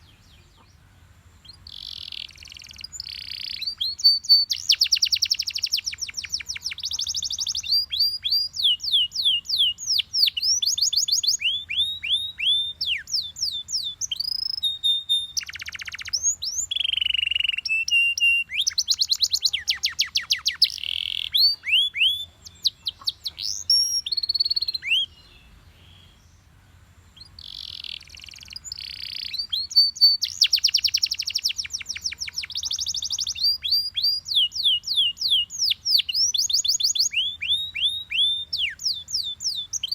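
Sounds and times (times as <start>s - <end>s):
canary singing: 1.4s - 26.2s, 27.2s - 39.9s.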